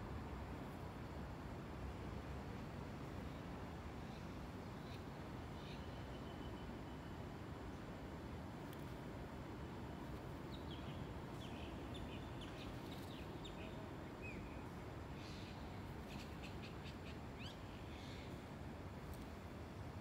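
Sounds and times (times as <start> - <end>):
low outdoor background hiss: 0.0 - 20.0.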